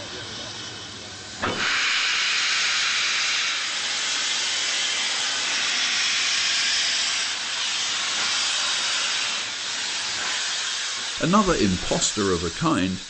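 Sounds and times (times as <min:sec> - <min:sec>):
steam locomotive blowing off steam: 0:00.0 - 0:13.0.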